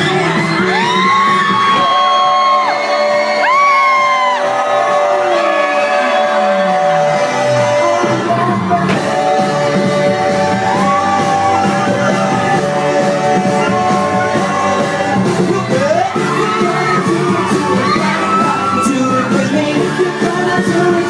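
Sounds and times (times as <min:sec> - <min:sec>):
crowd shouting and cheering: 0:00.0 - 0:21.0
loud pop music over pa: 0:00.0 - 0:21.0.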